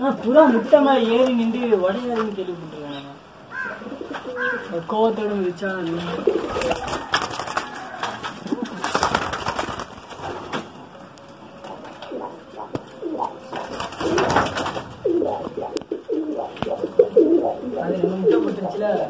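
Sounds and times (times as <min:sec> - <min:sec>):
pigeons cooing: 0:03.4 - 0:19.0.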